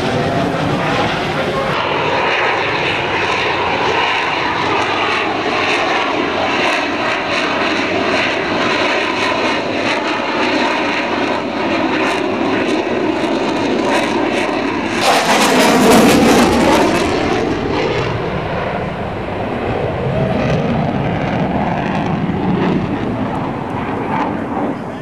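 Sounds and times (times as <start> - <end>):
fighter jet engines roaring overhead: 0.0 - 25.0.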